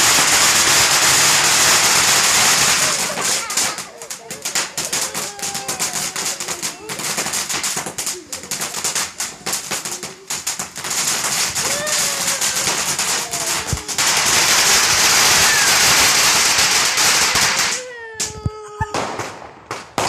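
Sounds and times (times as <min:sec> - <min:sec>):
firework fountain crackling: 0:00.0 - 0:20.0.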